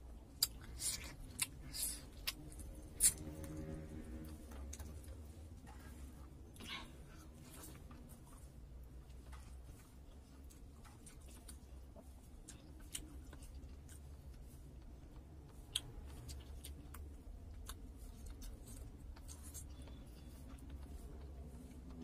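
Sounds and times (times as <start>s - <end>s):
faint clicks of eating: 0.0s - 22.0s
steady low hum: 0.0s - 22.0s.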